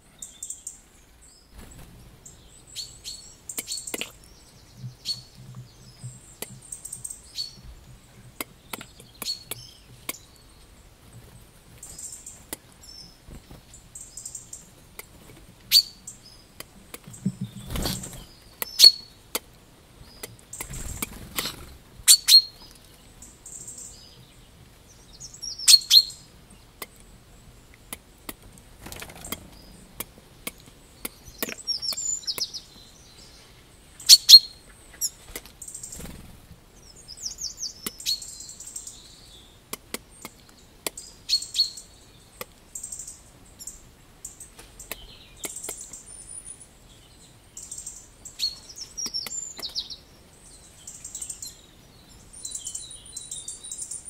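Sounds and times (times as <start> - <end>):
small birds chip calls: 0.0 - 54.0.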